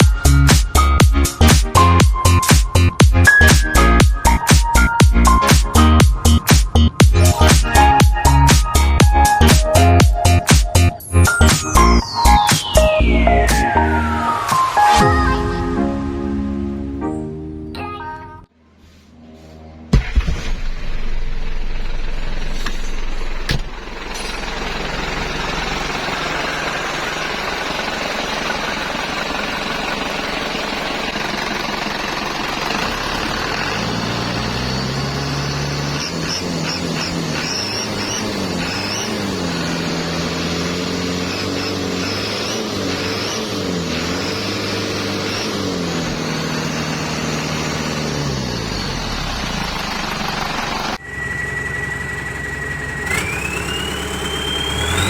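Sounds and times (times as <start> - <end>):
diesel engine revving: 0.0 - 17.0, 19.4 - 55.0.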